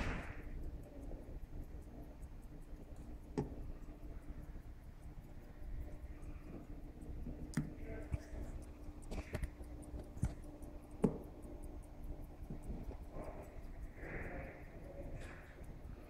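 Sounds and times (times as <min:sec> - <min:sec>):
pocket watch ticking: 0:00.0 - 0:16.0.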